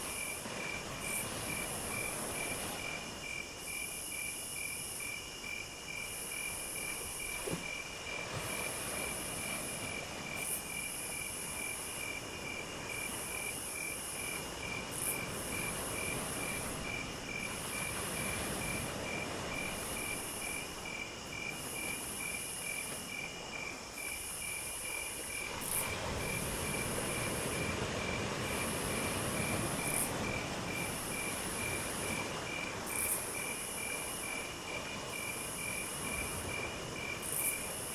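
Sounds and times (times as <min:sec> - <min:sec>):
insects chirping: 0:00.0 - 0:37.9
low background hiss: 0:00.0 - 0:37.9.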